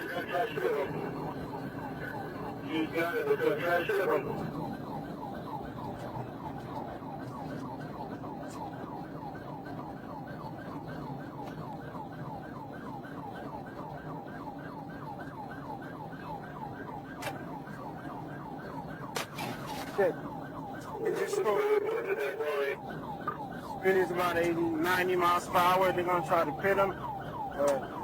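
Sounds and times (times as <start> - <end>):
car engine and tyres rumbling: 0.0 - 28.0
police siren yelping: 0.0 - 28.0.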